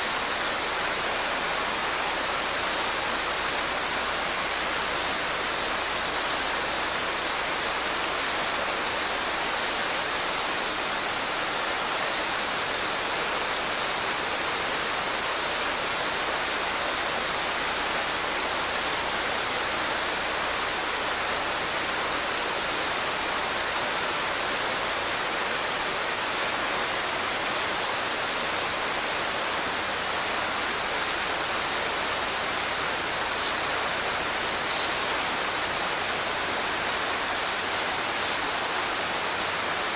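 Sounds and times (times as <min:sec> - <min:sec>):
faint cicada song: 0:00.0 - 0:39.9
stream rushing over rocks: 0:00.0 - 0:39.9.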